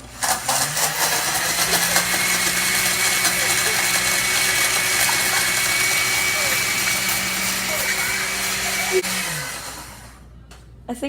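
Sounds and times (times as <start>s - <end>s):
blender motor whining: 0.0s - 10.3s.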